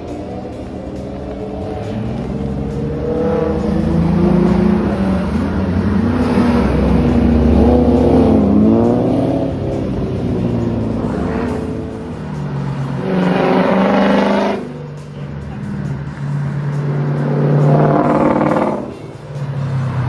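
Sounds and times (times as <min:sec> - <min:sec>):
cars and motorcycles revving past: 0:00.0 - 0:20.0.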